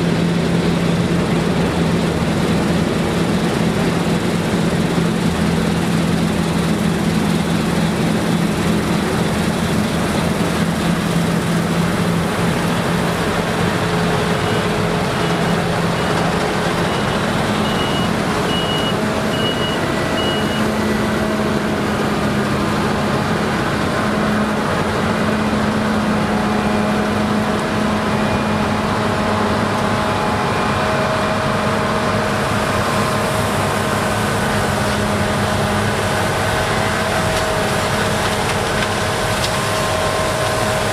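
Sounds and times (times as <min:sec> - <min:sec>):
combine harvester engine: 0:00.0 - 0:40.9.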